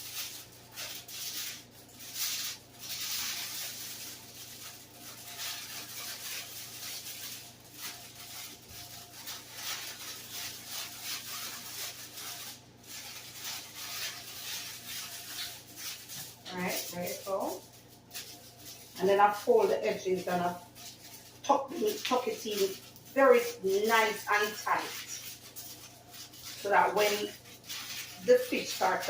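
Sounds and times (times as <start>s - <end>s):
aluminium foil crinkling: 0.0s - 29.0s.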